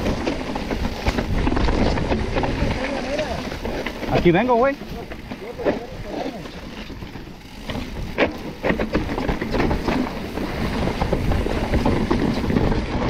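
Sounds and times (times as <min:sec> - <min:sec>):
bike knocking and rattling: 0:00.0 - 0:13.0
tyres grinding over dirt and rock: 0:00.0 - 0:13.0.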